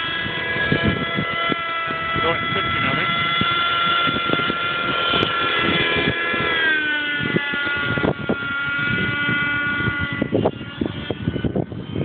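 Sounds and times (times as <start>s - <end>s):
model helicopter engine whine: 0.0s - 12.0s
wind buffeting microphone: 0.0s - 12.0s.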